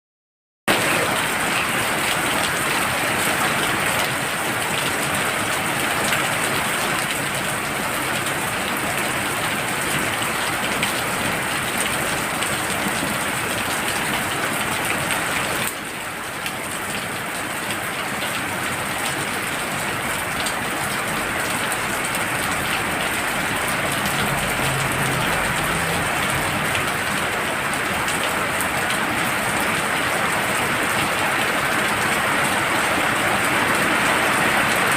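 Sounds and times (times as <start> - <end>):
heavy rain: 0.7 - 34.9.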